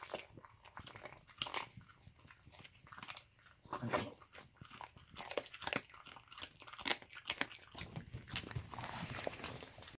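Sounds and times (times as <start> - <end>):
dog crunching on bone: 0.0 - 10.0.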